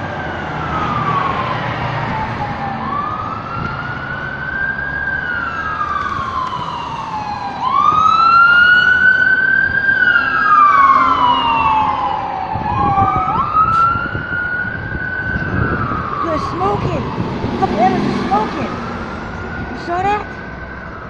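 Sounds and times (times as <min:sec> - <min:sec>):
ambulance siren wailing: 0:00.0 - 0:21.0.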